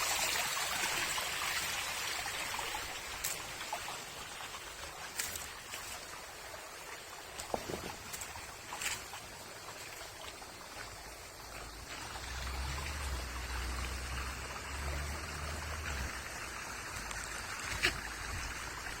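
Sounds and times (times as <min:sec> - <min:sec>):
small waterfall splashing: 0:00.0 - 0:19.0.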